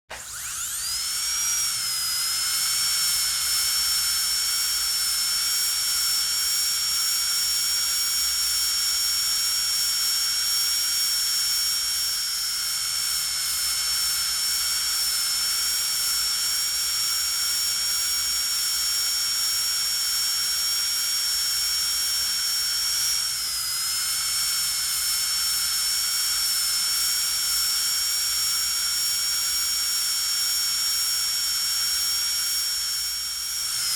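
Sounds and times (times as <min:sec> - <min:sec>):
dentist's drill whining: 0:00.1 - 0:33.9.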